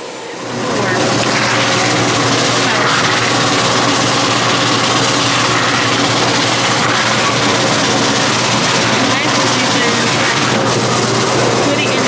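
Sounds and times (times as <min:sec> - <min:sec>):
loud even hiss: 0:00.0 - 0:12.0
machine motor hum: 0:00.0 - 0:12.0.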